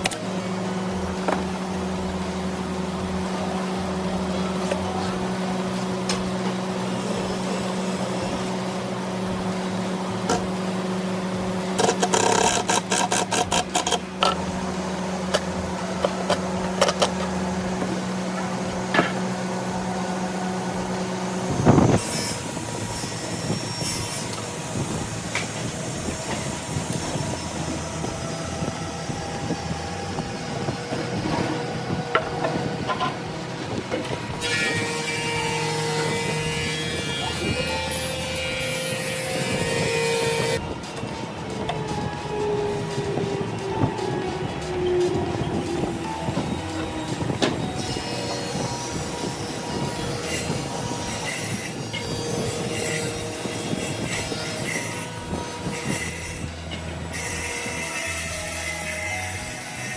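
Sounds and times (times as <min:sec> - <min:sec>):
woodworking machine motor humming: 0:00.0 - 0:59.9.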